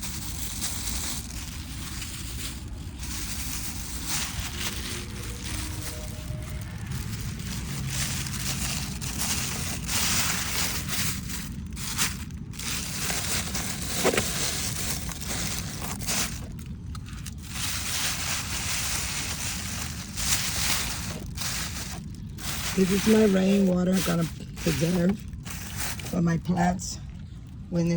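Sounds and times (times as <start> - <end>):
plastic sheeting crinkling: 0.0 - 26.8.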